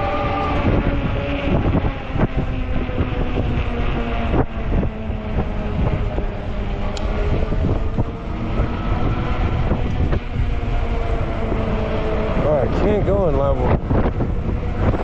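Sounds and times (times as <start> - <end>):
e-bike motor hum: 0.0 - 15.0
wind rumble on microphone: 0.0 - 15.0.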